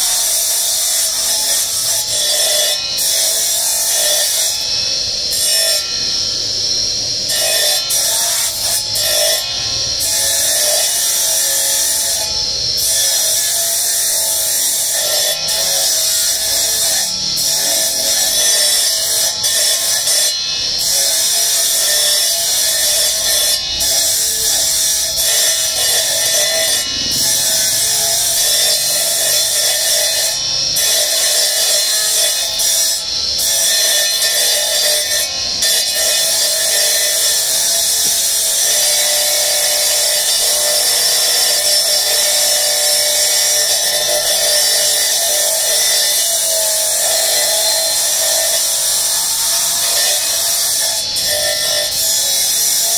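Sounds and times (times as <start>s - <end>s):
cutting disc grinding marble: 0.0s - 52.9s.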